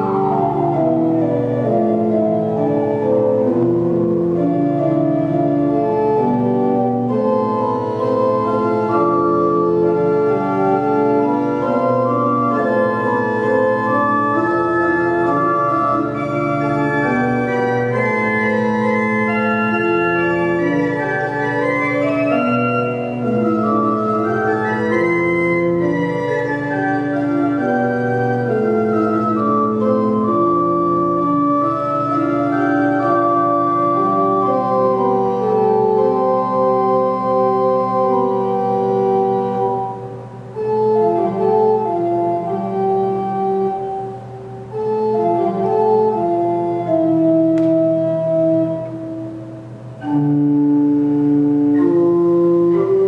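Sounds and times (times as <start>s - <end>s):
pipe organ playing chords: 0.0s - 53.0s.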